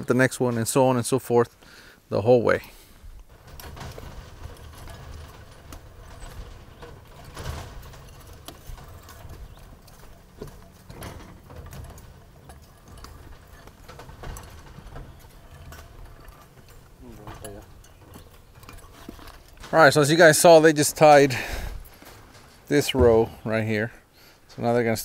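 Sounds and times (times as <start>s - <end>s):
steel bars clinking: 3.4s - 23.5s.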